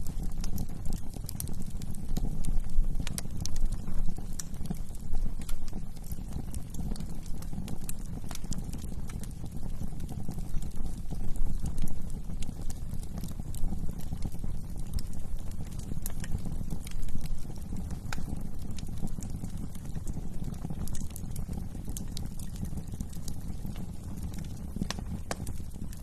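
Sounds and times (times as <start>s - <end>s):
burning wood crackling and popping: 0.0s - 26.0s
fire flames rumbling: 0.0s - 26.0s.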